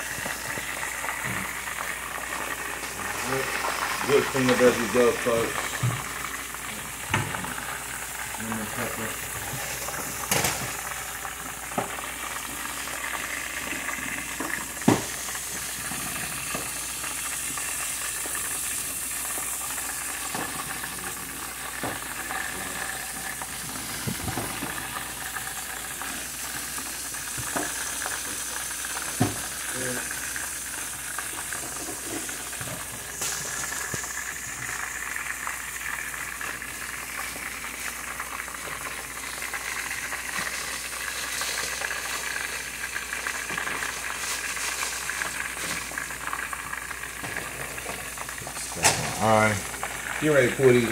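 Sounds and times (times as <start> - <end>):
chicken frying in hot oil: 0.0 - 50.9.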